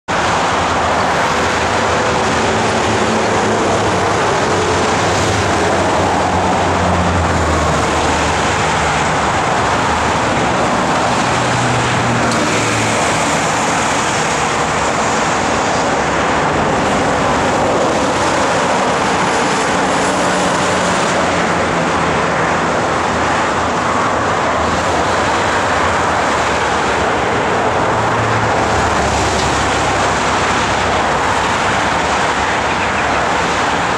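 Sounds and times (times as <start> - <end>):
freeway traffic tyre noise: 0.0 - 33.9
heavy vehicle engine hums: 0.0 - 33.9.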